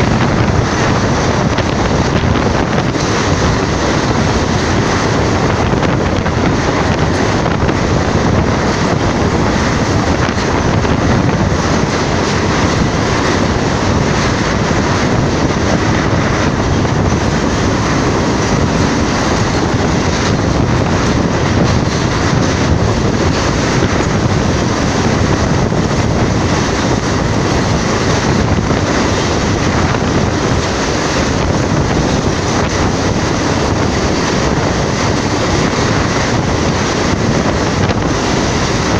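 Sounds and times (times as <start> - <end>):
train running noise: 0.0 - 38.9
wind buffeting microphone: 0.0 - 38.9.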